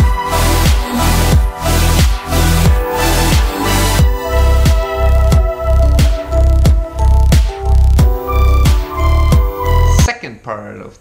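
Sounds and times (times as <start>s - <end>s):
deep kick drum: 0.0s - 9.6s
electronic music with steady beat: 0.0s - 10.1s
sustained bass: 0.0s - 10.1s.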